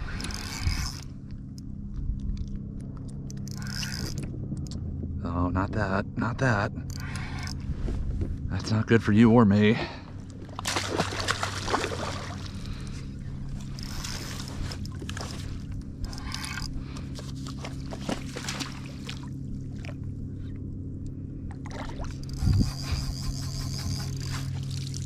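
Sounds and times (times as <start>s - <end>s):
electric trolling motor humming: 0.0s - 25.0s.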